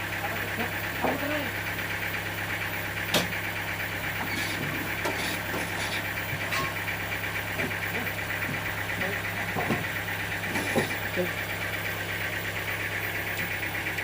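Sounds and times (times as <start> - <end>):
sawmill machinery humming: 0.0 - 14.0.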